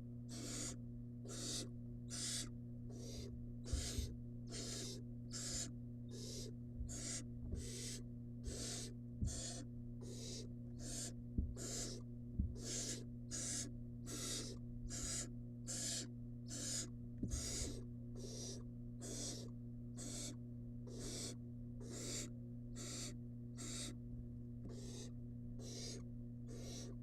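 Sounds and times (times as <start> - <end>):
electrical hum: 0.0 - 27.0
owl nestling hissing begging calls: 0.3 - 12.0, 12.6 - 24.0, 24.7 - 27.0.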